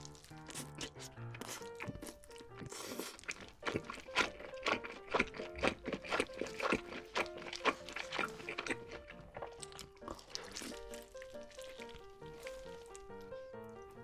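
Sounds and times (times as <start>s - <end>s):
close wet chewing: 0.0s - 14.0s
soft background music: 0.0s - 14.0s.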